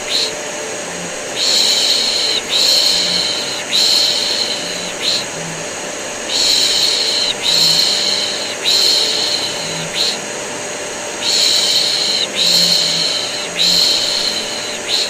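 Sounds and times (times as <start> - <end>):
vacuum cleaner whirring: 0.0 - 15.0
person shushing: 1.0 - 10.2, 11.2 - 15.0.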